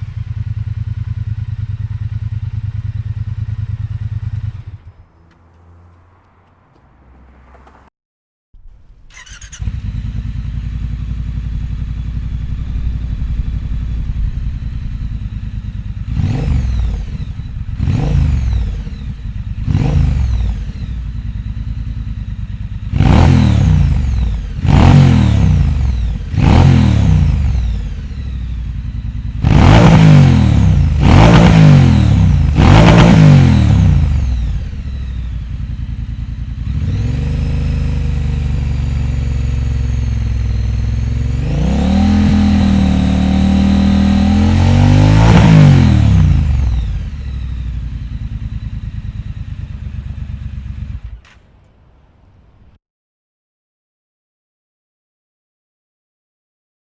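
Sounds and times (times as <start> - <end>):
motorcycle engine idling and revving: 0.0 - 7.9, 8.6 - 52.8.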